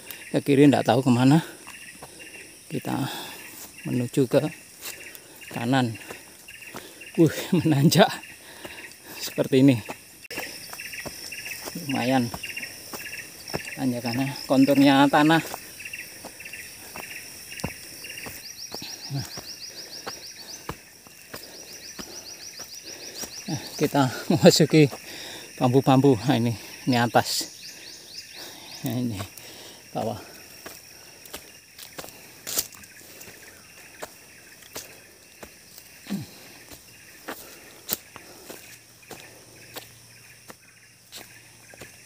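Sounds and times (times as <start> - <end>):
insect trilling: 0.0 - 42.0
footsteps on dirt trail: 0.8 - 42.0.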